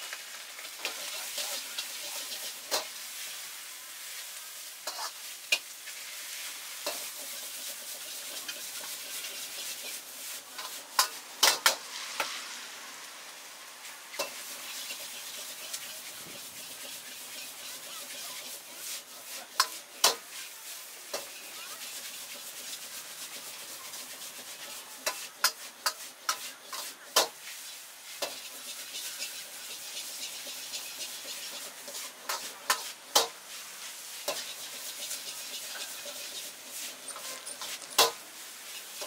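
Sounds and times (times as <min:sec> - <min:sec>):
noodles sizzling in a wok: 0:00.0 - 0:39.0.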